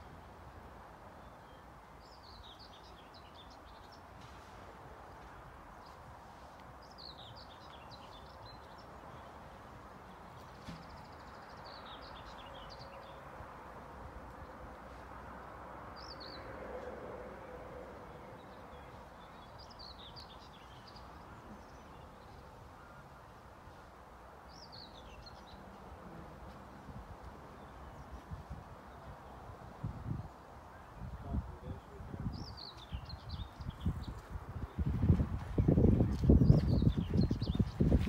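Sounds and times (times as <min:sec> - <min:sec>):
faint background noise: 0:00.0 - 0:38.0
songbirds singing: 0:01.1 - 0:04.3, 0:05.2 - 0:13.4, 0:15.9 - 0:23.8, 0:24.4 - 0:26.1, 0:26.8 - 0:38.0.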